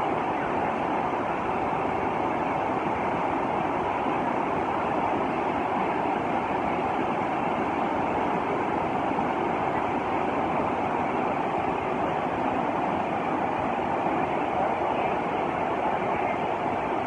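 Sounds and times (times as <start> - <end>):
floodwater rushing over rapids: 0.0 - 17.0.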